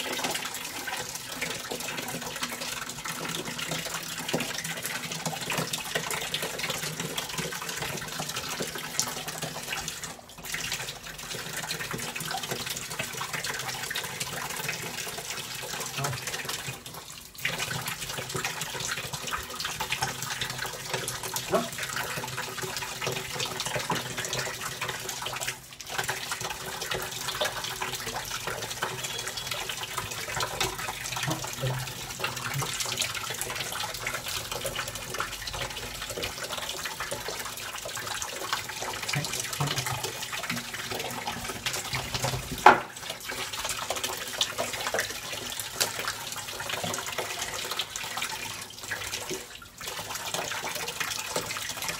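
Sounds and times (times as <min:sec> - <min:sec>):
tap water running into bucket: 0:00.0 - 0:51.9.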